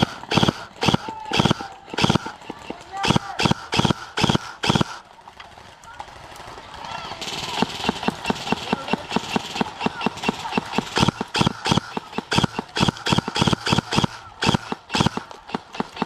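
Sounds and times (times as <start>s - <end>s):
running footsteps on ground: 0.0s - 16.0s.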